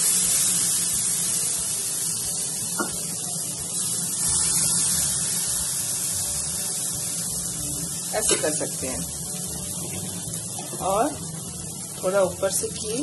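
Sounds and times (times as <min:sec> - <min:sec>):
batter sizzling in frying pan: 0:00.0 - 0:13.0.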